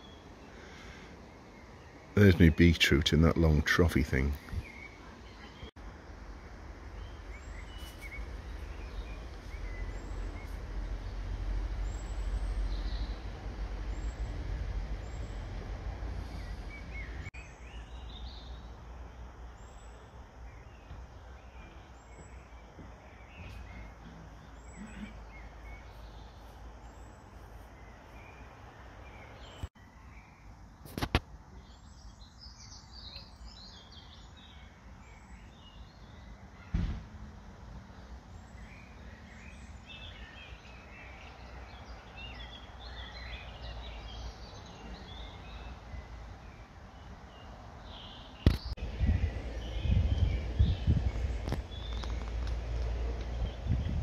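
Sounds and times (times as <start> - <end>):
small birds chirping: 0.0 - 36.8, 37.8 - 54.0.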